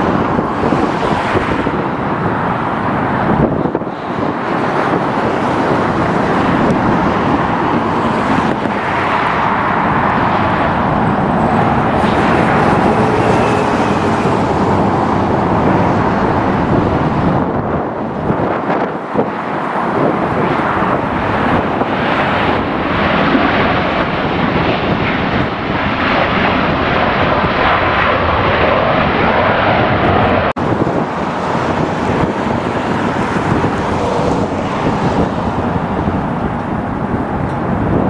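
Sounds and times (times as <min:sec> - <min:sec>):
jet airliner engines rushing: 0:00.0 - 0:38.0.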